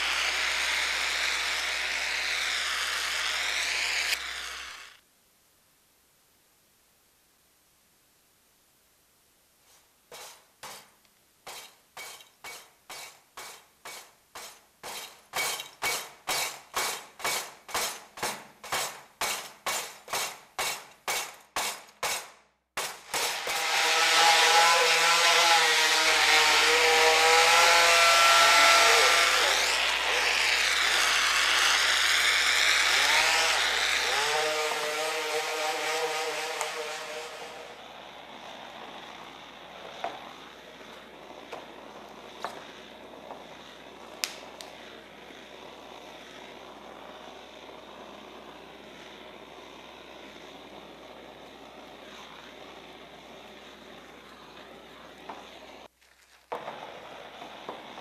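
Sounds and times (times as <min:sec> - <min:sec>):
rhythmic tool strokes: 0:00.0 - 0:05.0, 0:10.1 - 0:55.8.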